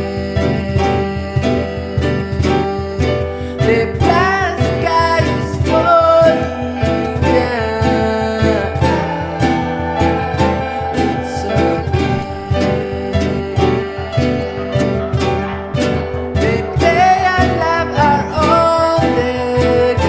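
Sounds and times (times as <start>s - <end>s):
person singing: 0.0s - 20.0s
strummed acoustic guitar: 0.0s - 20.0s.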